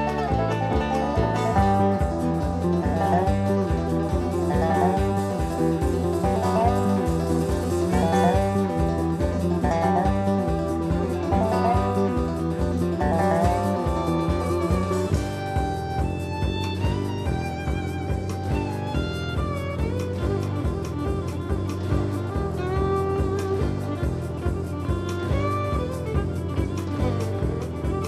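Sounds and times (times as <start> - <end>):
country band music with guitar: 0.0 - 28.0
steady bass beat: 0.0 - 28.0.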